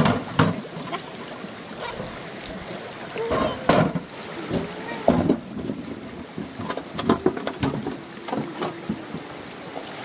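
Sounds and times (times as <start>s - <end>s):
water splashing: 0.0s - 10.0s.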